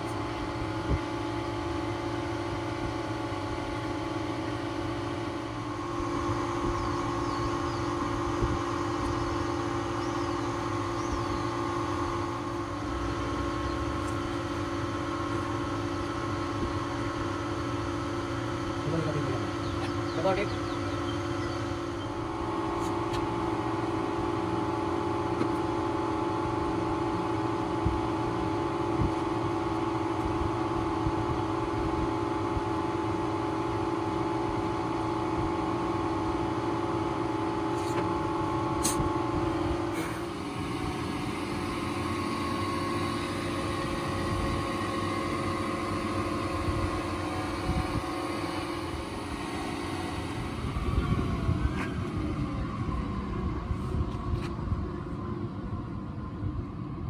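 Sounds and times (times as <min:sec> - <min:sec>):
mechanical hum with held tones: 0:00.0 - 0:57.0.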